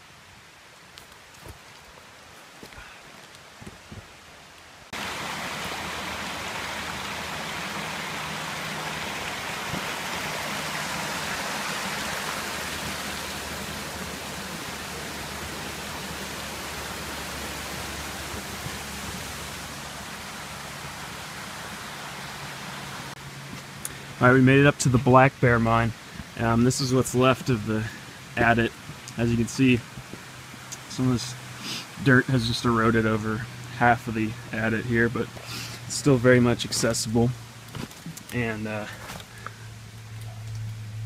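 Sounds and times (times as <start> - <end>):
creek rushing over rocks: 0.1 - 40.0.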